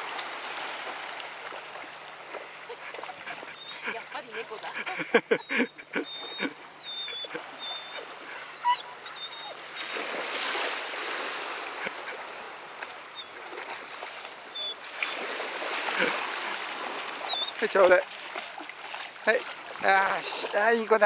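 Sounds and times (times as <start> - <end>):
shallow water splashing: 0.0 - 21.0.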